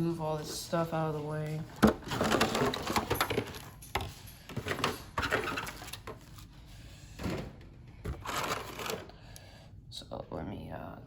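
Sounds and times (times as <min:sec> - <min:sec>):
boxes and packaging rustling: 0:00.0 - 0:09.2.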